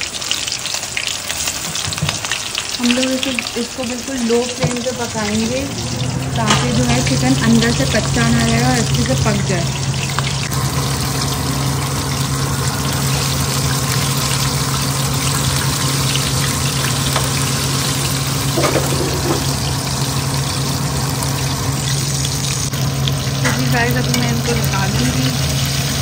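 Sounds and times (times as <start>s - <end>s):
oil sizzling with crackles: 0.0s - 26.0s
low hum: 4.2s - 26.0s.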